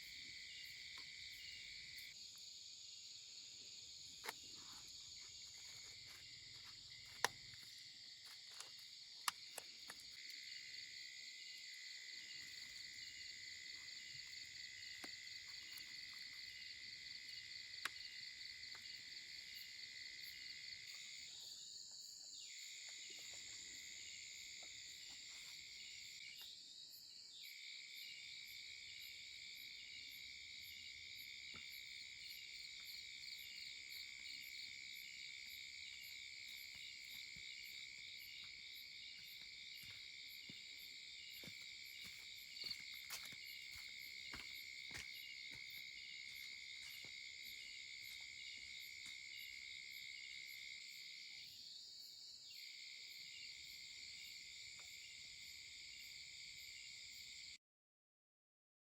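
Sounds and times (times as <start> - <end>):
insects trilling: 0.0 - 57.5.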